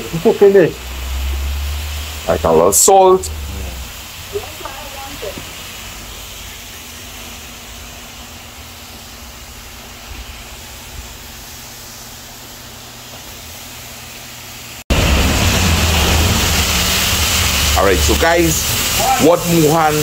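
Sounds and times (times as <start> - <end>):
pork sizzling in a pot: 0.0 - 20.0.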